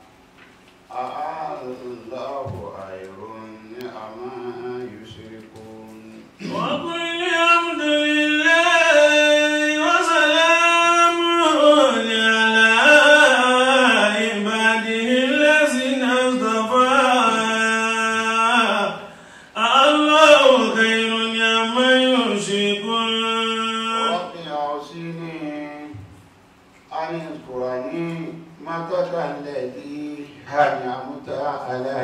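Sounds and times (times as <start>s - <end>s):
man chanting: 0.9s - 26.1s, 26.9s - 32.0s.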